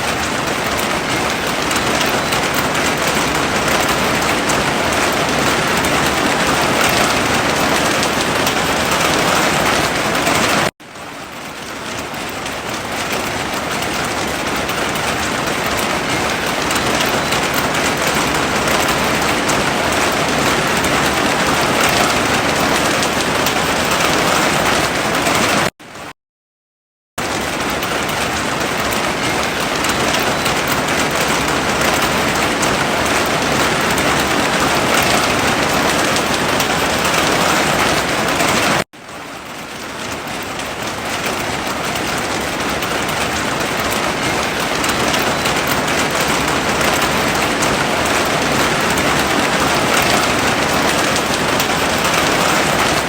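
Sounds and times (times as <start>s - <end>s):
heavy rain falling: 0.0s - 26.1s, 27.2s - 53.0s.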